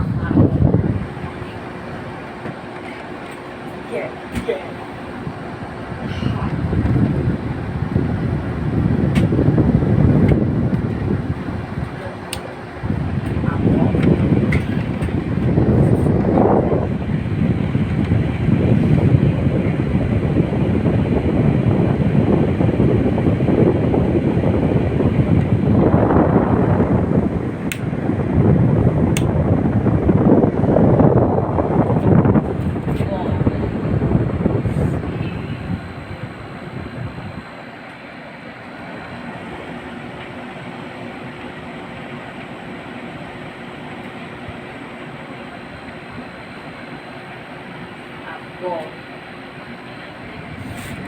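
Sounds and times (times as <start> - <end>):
air conditioner fan blowing: 0.0 - 51.0.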